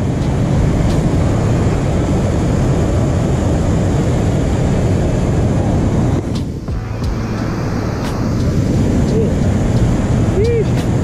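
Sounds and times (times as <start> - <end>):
low rumble: 0.0 - 11.0
river water rushing: 0.0 - 11.0.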